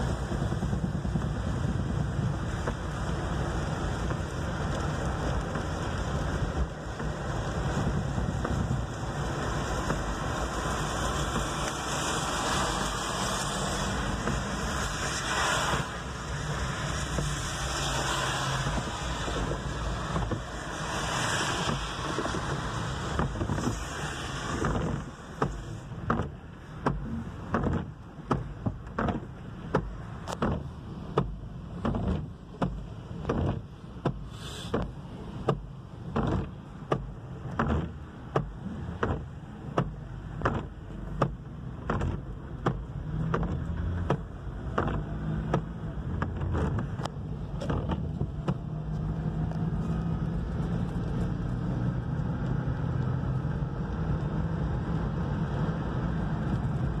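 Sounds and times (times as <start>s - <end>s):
hiss of tyres and rain: 0.0s - 57.0s
windshield wipers sweeping: 0.0s - 57.0s.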